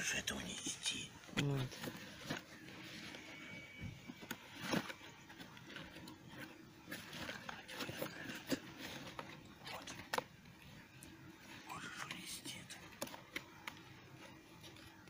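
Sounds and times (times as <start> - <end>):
rummaging in cardboard box: 1.3 - 15.0.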